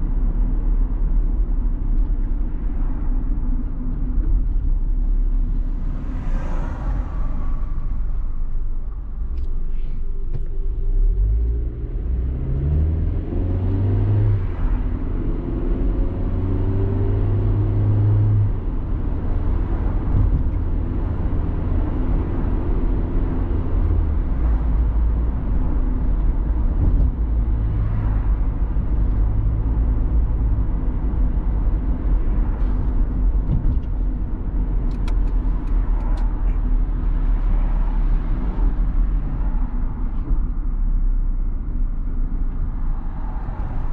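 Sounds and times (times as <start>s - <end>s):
car engine accelerating: 0.0s - 43.9s
road rumble: 0.0s - 43.9s.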